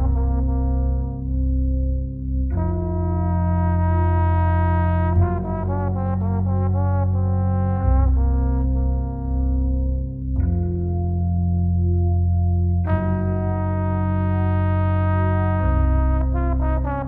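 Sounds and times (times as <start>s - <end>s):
slow ambient music: 0.0s - 17.0s.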